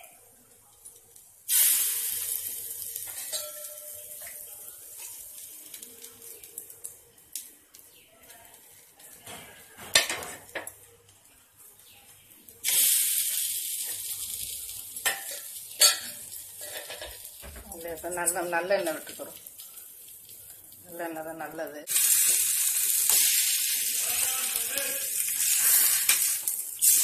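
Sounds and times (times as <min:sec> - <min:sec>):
dough sizzling on hot pan: 0:00.0 - 0:27.0.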